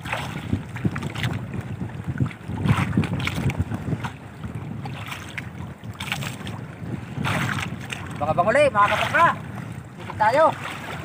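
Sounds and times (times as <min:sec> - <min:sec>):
water lapping against boat: 0:00.0 - 0:11.0
water splashes: 0:00.0 - 0:11.0
wind buffeting microphone: 0:00.0 - 0:11.0.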